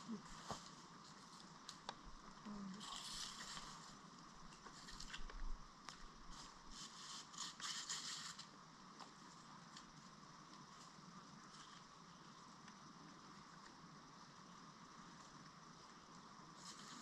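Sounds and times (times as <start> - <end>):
small ticks: 1.0 - 6.1, 7.0 - 17.0.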